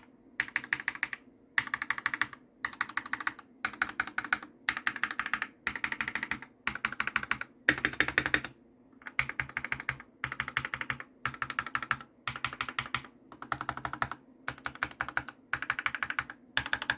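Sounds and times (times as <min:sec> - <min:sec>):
mechanical keyboard typing: 0:00.4 - 0:16.9.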